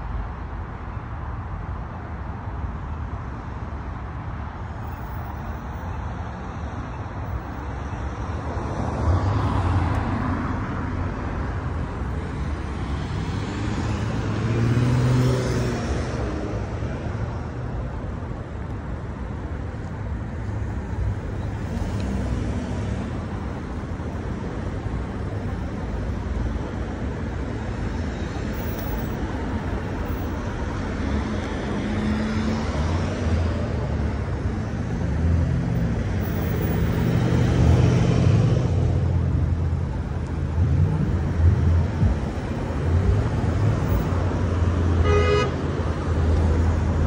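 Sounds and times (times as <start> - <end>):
steady traffic rumble: 0.0 - 47.0
cars driving past: 4.1 - 47.0.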